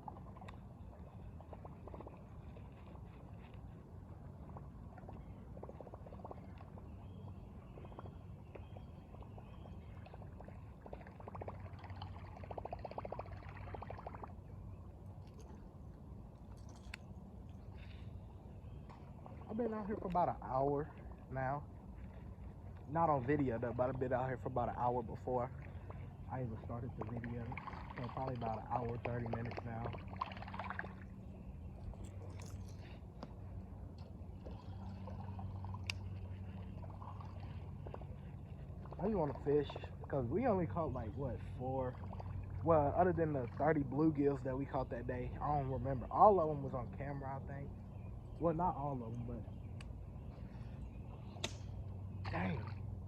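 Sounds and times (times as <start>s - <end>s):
river water running: 0.0s - 53.0s
steady low hum: 0.0s - 53.0s.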